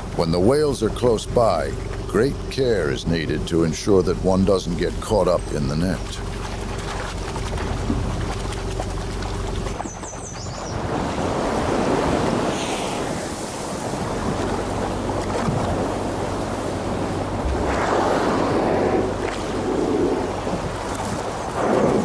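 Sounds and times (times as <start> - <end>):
wind: 0.0 - 22.0
water washing and splashing: 4.2 - 22.0.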